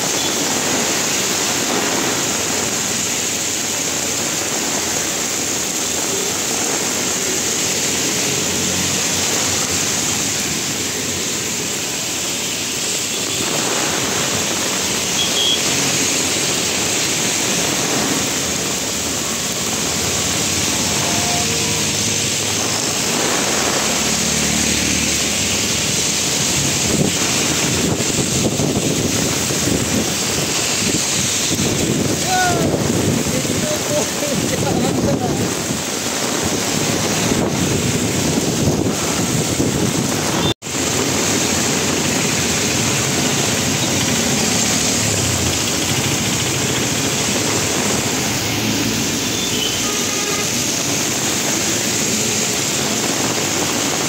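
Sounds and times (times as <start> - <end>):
heavy rain on a street: 0.0 - 54.0
vehicles swishing on wet road: 0.0 - 54.0.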